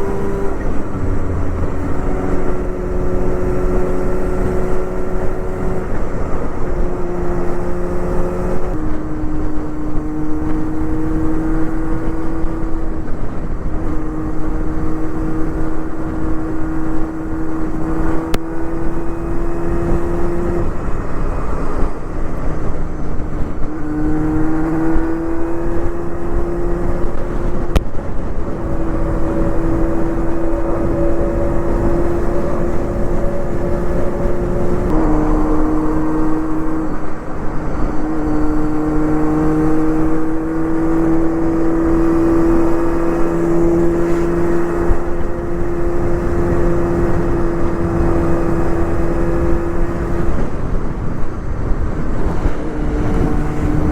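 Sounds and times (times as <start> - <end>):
motorcycle engine at speed: 0.0 - 53.9
wind rush on microphone: 0.0 - 53.9.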